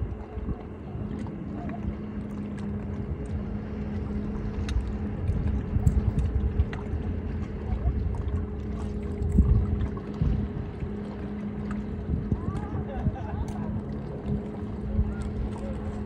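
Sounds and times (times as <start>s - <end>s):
low hum: 0.0s - 16.0s
small waves lapping shore: 0.0s - 16.0s
wind rumbling on microphone: 0.0s - 16.0s.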